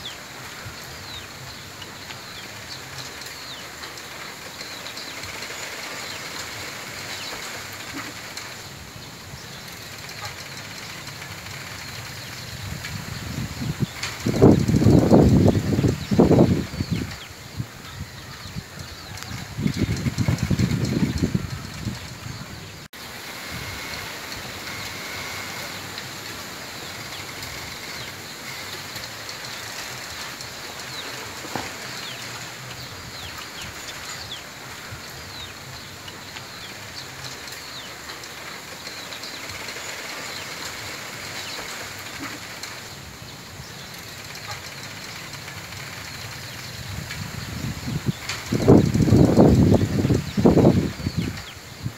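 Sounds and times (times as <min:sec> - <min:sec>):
wind rustling bamboo leaves: 0:00.0 - 0:51.9.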